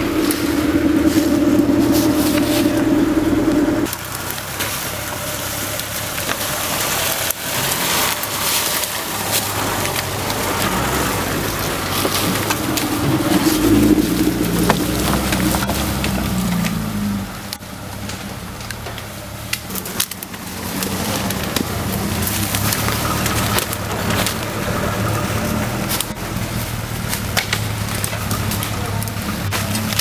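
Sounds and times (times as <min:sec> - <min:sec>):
branches and twigs snapping: 0:00.0 - 0:30.0
off-road vehicle engine: 0:00.0 - 0:30.0.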